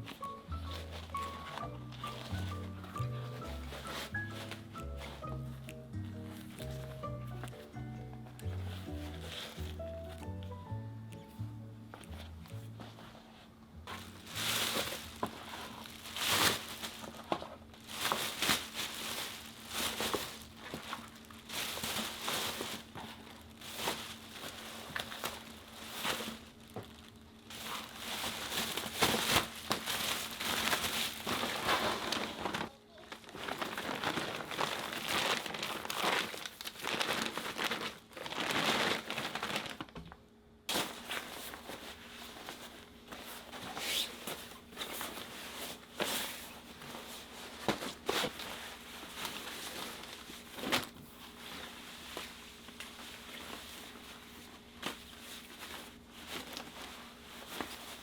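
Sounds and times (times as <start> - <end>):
crinkling and rustling: 0.0 - 58.0.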